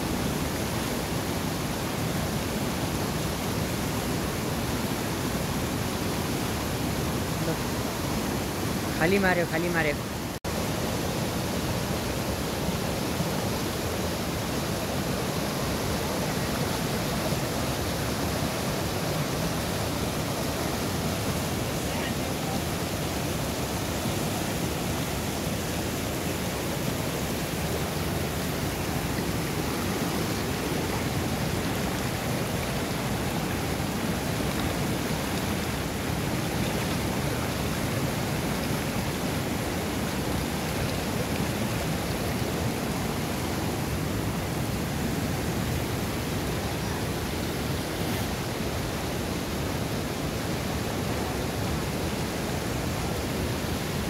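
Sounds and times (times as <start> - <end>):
fast-flowing river water: 0.0 - 54.0.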